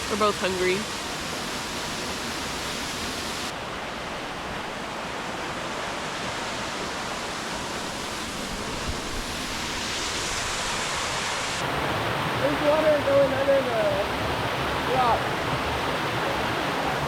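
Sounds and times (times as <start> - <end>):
rushing creek water: 0.0 - 17.0.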